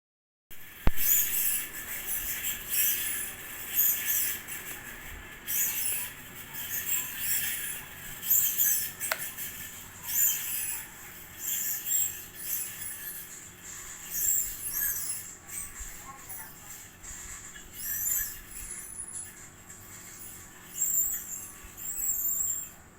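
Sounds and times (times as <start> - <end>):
ceiling fan running: 0.5 - 22.9
fan bearing squeaking: 0.6 - 22.9.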